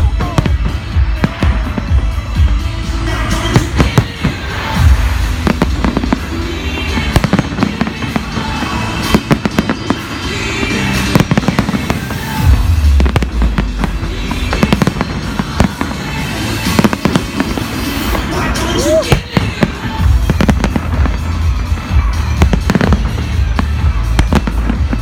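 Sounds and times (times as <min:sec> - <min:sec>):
deep fireworks booms: 0:00.0 - 0:25.0
fireworks bangs and crackling: 0:00.0 - 0:25.0.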